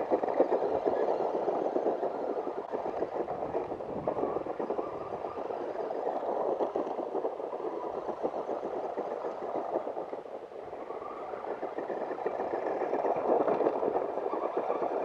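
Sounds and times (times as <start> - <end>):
toy car rattling over gravel: 0.0 - 15.0.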